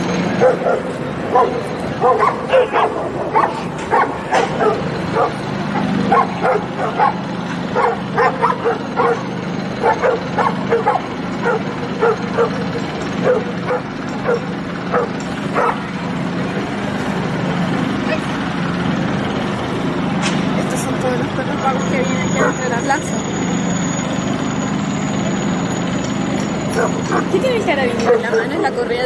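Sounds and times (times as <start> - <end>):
dogs barking and yipping: 0.0 - 16.6, 21.6 - 29.0.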